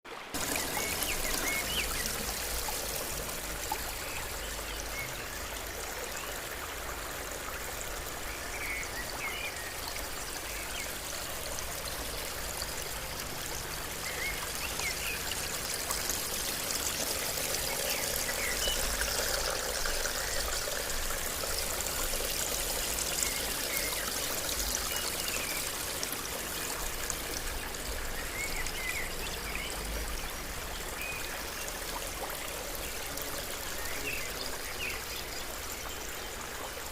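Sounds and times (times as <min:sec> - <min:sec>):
water trickling down a tabletop fountain: 0:00.3 - 0:36.9.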